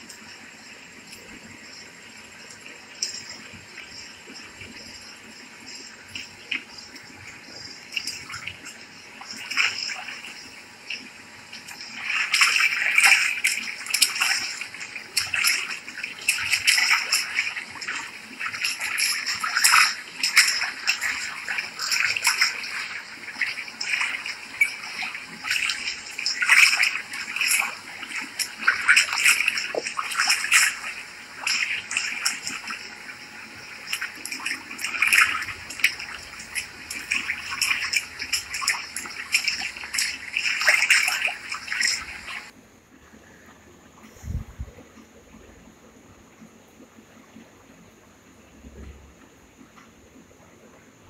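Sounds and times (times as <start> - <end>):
pool water splashing: 0.0 - 42.8.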